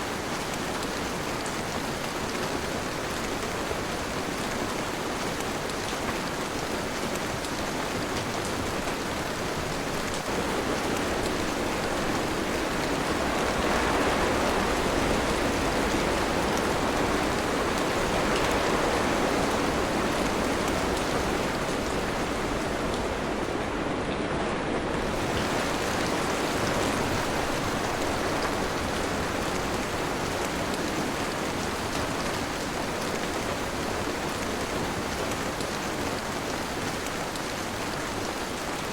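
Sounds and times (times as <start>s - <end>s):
dense rainfall: 0.0s - 38.9s.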